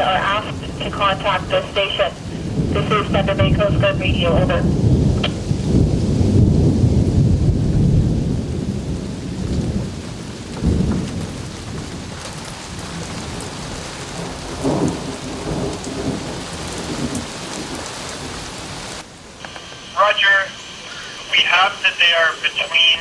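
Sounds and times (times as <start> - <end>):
steady rain: 0.0 - 23.0
thunder rumbling: 0.0 - 23.0.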